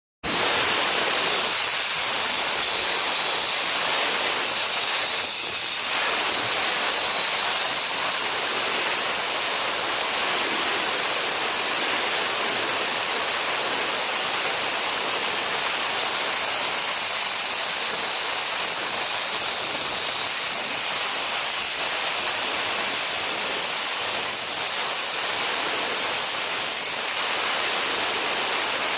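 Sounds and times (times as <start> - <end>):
concrete saw grinding: 0.2 - 28.9.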